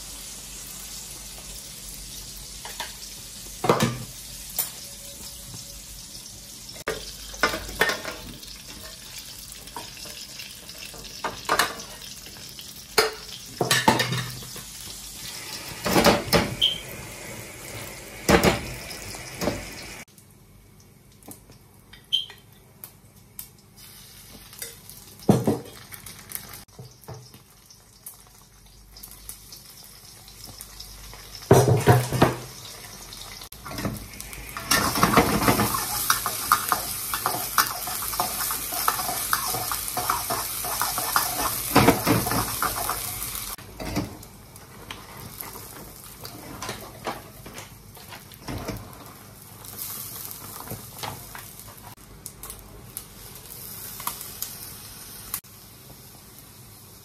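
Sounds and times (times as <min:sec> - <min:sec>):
food sizzling: 0:00.0 - 0:20.1, 0:20.8 - 0:57.0.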